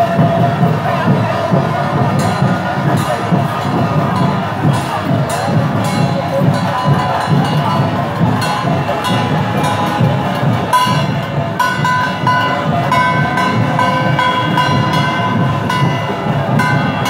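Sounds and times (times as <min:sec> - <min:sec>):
drums beating steady rhythm: 0:00.0 - 0:17.0.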